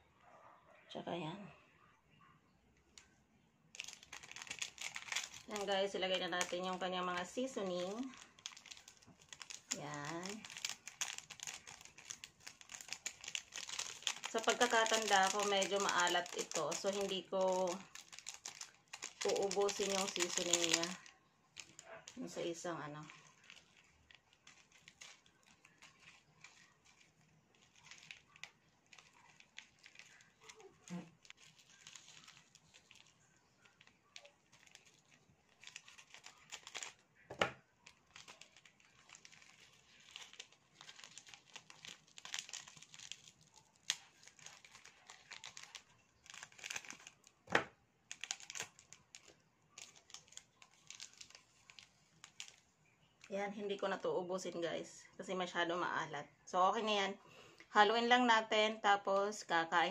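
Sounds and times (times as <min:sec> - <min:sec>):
plastic sachets crinkling: 0:03.0 - 0:54.5.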